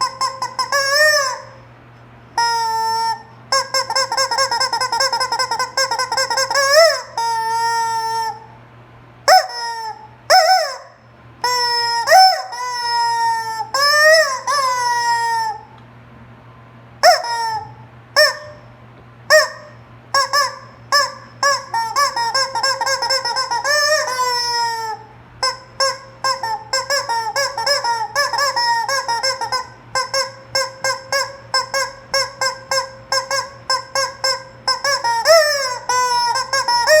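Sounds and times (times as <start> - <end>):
rubber chicken toy squeaking: 0.0 - 1.6, 2.4 - 8.6, 9.3 - 15.7, 17.0 - 18.7, 19.3 - 37.0.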